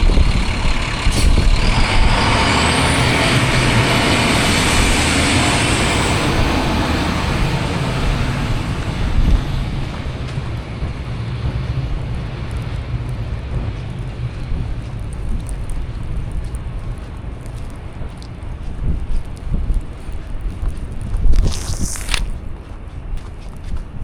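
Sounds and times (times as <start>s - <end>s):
heavy road vehicle passing: 0.0s - 20.2s
traffic noise: 0.0s - 24.0s
wind rumble on microphone: 0.0s - 24.0s.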